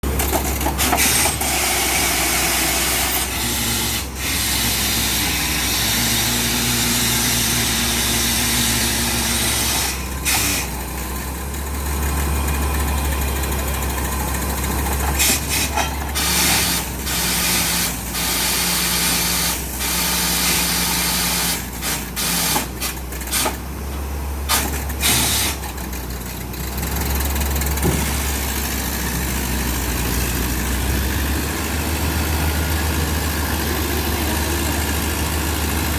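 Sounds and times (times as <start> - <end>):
drilling machine engine running: 0.0 - 35.9.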